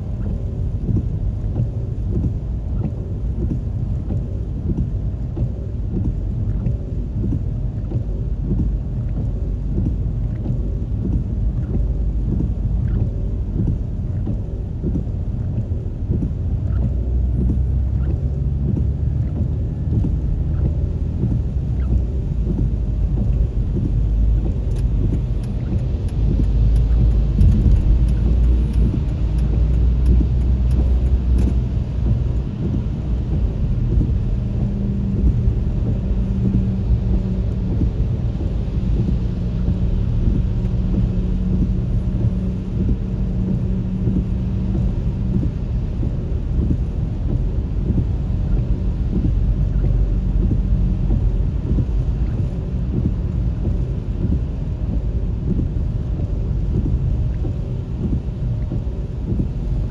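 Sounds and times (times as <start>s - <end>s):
droning engine: 0.0s - 59.9s
road traffic rumble: 0.0s - 59.9s.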